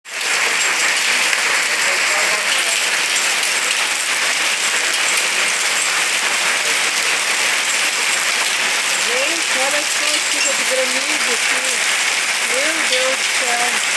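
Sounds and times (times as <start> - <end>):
heavy hail clattering: 0.1 - 13.9.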